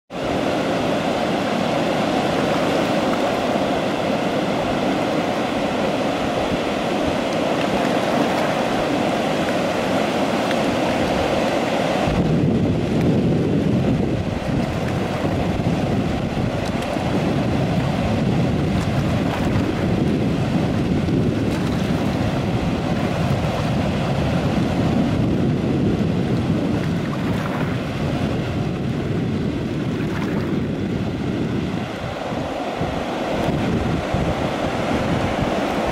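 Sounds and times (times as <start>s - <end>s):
whitewater rushing roar: 0.1s - 35.9s.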